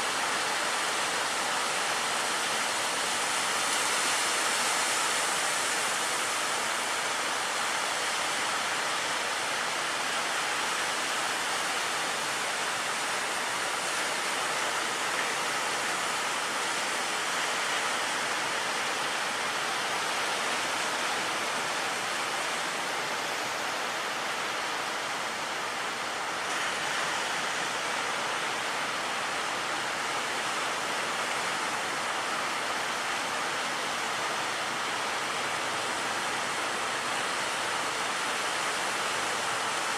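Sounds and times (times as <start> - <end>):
heavy surf and breaking waves: 0.0 - 39.9.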